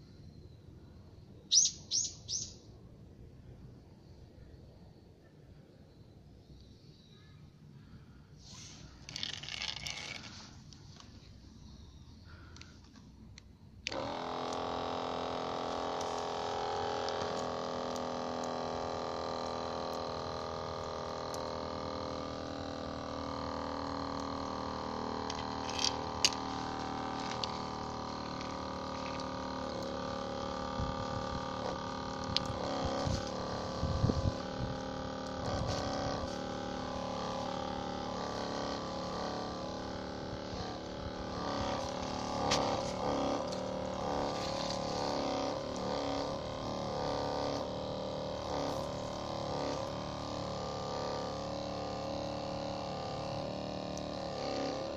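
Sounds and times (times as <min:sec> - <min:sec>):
electric pump motor humming: 0:08.6 - 0:11.2, 0:12.3 - 0:54.9.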